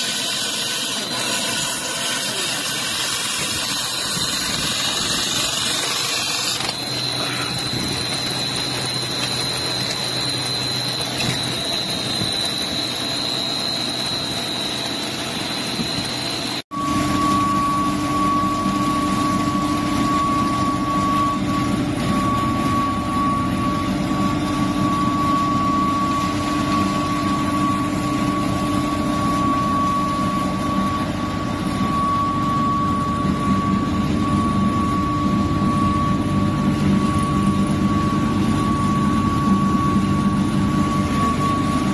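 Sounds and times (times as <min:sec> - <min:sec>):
grinding mill whining: 0:00.0 - 0:41.9
workshop machinery noise: 0:00.0 - 0:41.9.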